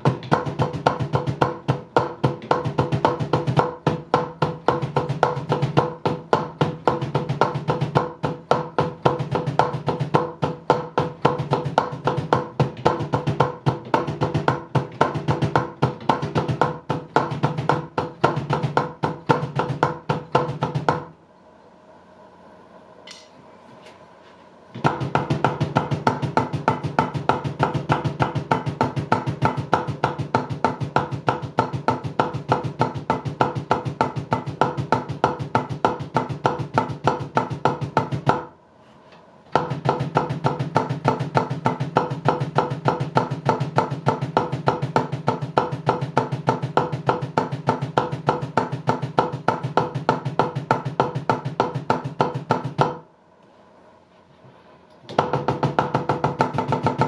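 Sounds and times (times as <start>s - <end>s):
fast double kick bass drum: 0.0s - 21.1s, 24.8s - 38.5s, 39.6s - 53.0s, 55.2s - 57.0s.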